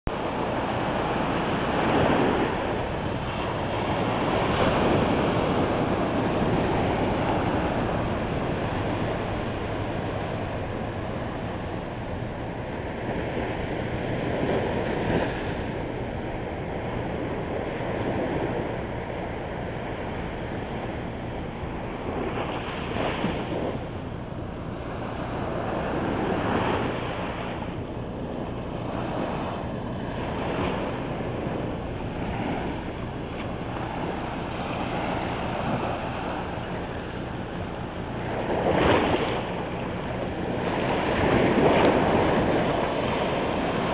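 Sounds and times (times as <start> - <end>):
surf washing up beach: 0.1 - 43.9
wind buffeting microphone: 0.1 - 43.9.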